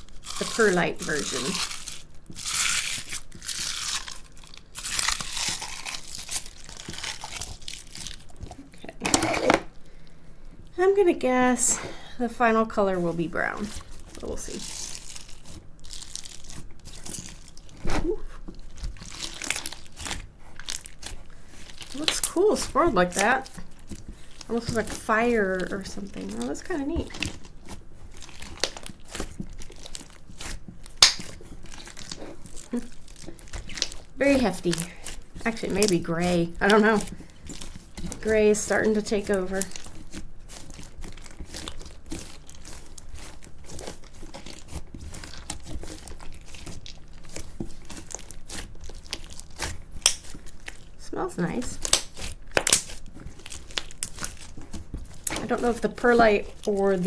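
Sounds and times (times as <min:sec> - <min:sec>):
crunchy slime crackling: 0:00.0 - 0:57.0.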